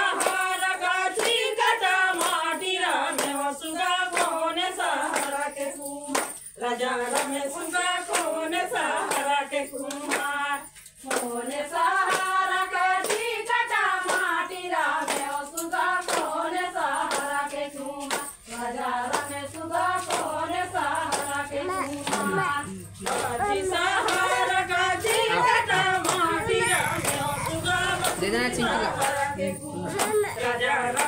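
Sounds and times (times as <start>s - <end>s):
rhythmic handclaps: 0.0s - 31.0s
women singing in unison: 0.0s - 31.0s.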